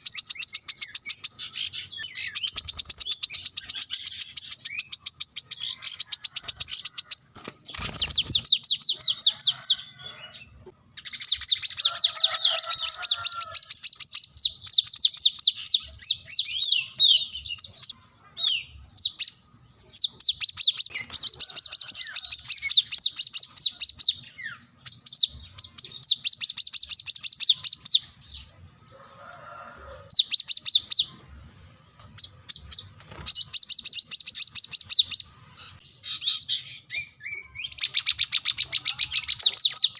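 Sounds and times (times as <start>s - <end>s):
bird singing rapid trills: 0.0s - 28.9s, 30.1s - 39.9s.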